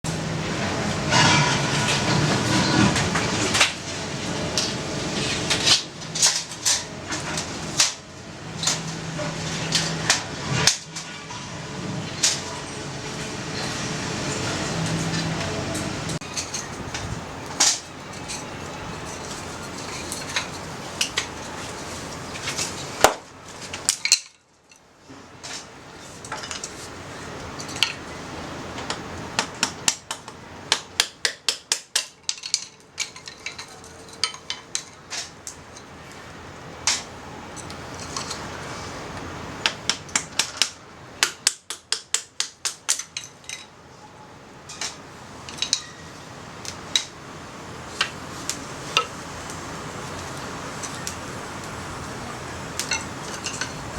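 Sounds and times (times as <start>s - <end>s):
wood fire crackling: 0.1s - 43.5s, 44.6s - 53.9s.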